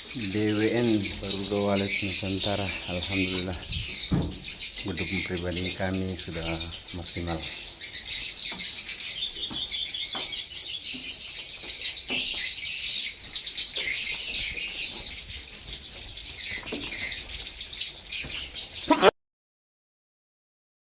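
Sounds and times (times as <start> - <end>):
swiftlets chirping and twittering: 0.0 - 19.1.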